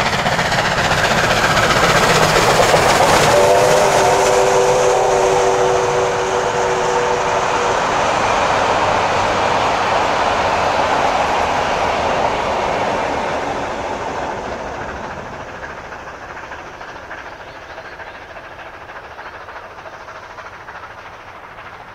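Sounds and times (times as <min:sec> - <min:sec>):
train wheels rumbling on track: 0:00.0 - 0:21.9.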